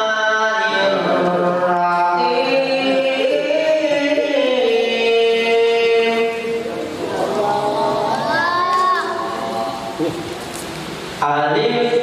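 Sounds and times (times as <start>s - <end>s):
group singing: 0.0s - 10.3s.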